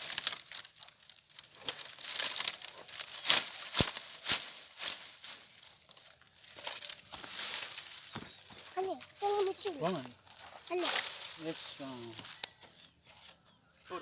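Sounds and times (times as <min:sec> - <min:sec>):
dry leaves and sticks rustling: 0:00.0 - 0:13.7.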